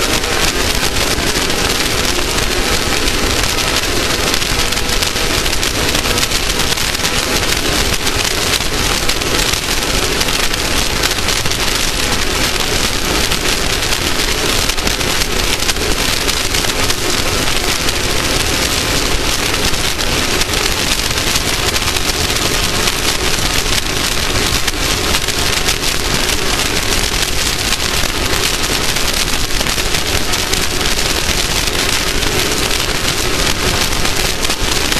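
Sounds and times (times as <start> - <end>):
vehicle rushing with crackling: 0.0 - 34.9.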